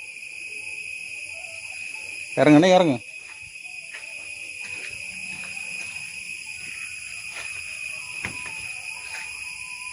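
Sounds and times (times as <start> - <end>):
insect chorus drone: 0.0 - 9.9.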